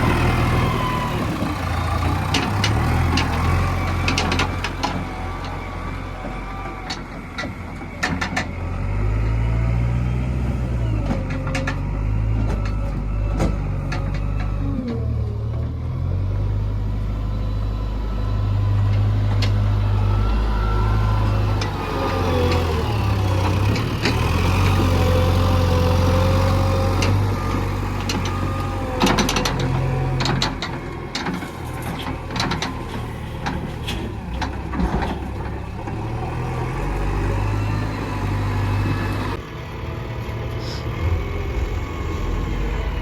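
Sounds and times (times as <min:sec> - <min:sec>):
heavy diesel machinery running: 0:00.0 - 0:43.0.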